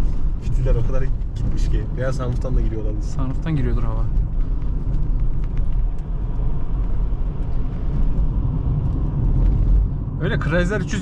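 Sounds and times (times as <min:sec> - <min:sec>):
engine and tyre rumble: 0:00.0 - 0:11.0
wind noise: 0:00.0 - 0:11.0.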